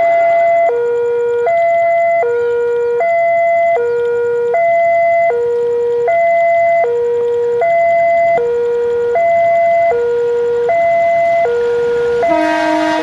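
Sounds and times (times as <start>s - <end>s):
two-tone level crossing alarm: 0.0s - 13.0s.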